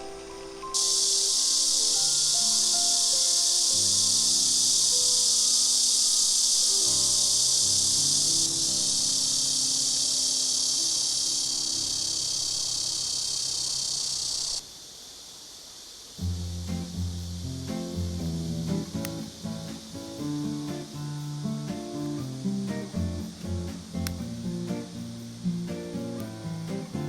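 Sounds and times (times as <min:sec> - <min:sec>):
soft background music: 0:00.0 - 0:06.0, 0:06.7 - 0:12.8, 0:16.2 - 0:27.0
insects chorus: 0:00.0 - 0:27.0.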